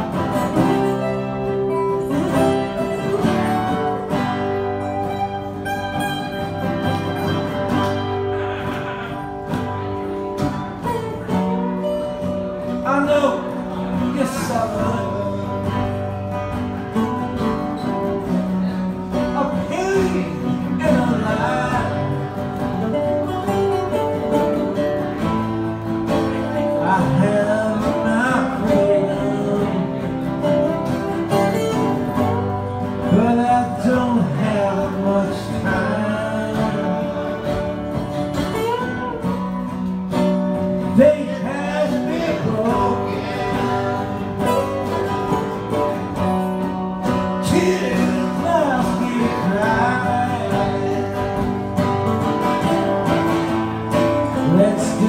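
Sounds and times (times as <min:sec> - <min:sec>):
acoustic guitars playing ballad: 0:00.0 - 0:55.0.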